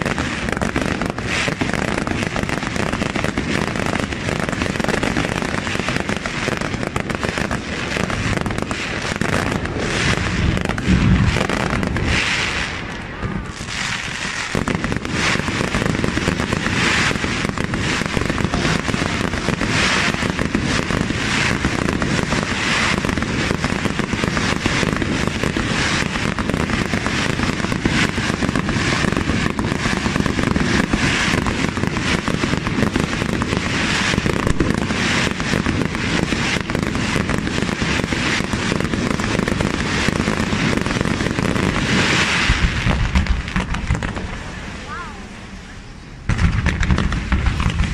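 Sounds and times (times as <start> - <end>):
heavy firework boom: 0.0 - 13.9, 14.5 - 44.5, 46.2 - 47.9
fireworks bursting: 0.0 - 47.9.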